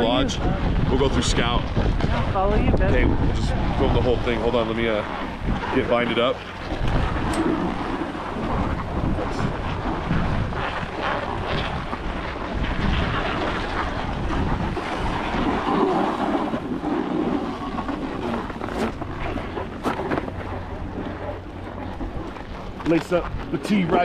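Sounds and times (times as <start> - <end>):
gusty wind on microphone: 0.0 - 24.0.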